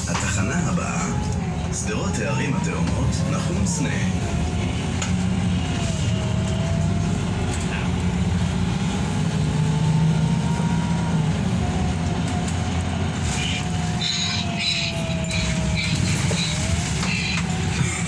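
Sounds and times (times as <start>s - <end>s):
bus engine drone: 0.0s - 18.0s
drivetrain whine: 0.0s - 18.0s.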